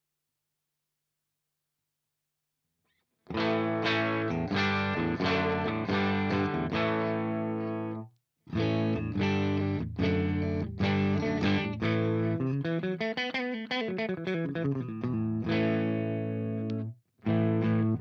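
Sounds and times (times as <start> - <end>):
electric guitar chords strummed: 3.3 - 18.0.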